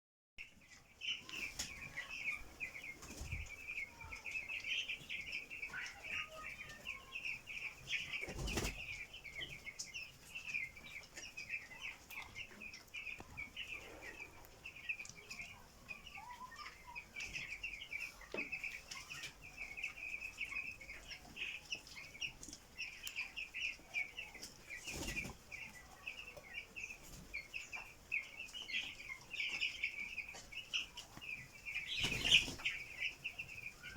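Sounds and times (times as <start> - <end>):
chickens peeping: 0.4 - 33.9.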